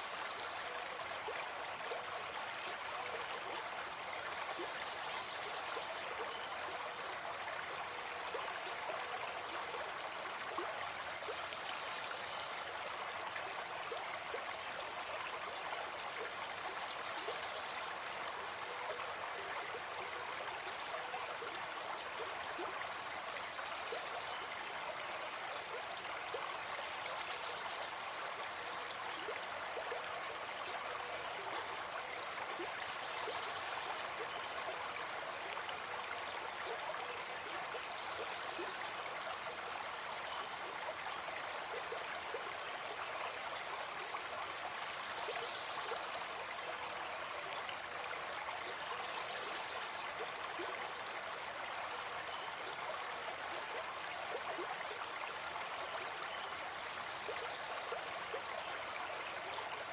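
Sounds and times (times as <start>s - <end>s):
stream flowing: 0.0s - 59.9s.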